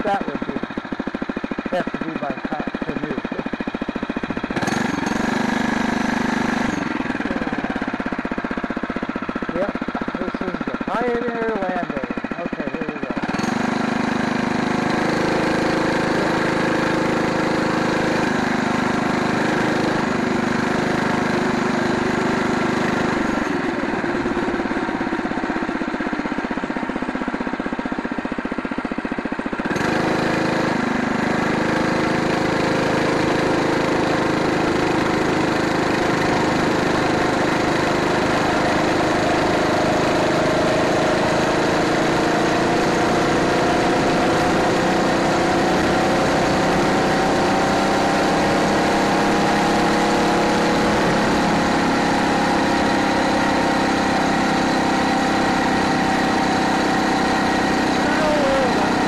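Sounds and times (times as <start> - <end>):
small motorbike engine running: 0.0 - 59.0.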